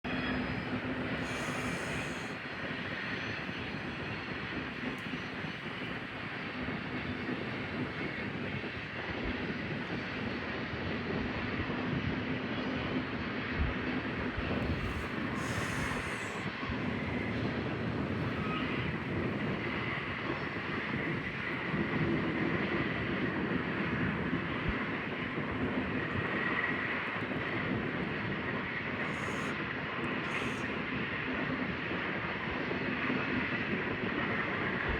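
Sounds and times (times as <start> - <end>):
train wheels rumbling on rails: 0.1 - 34.9.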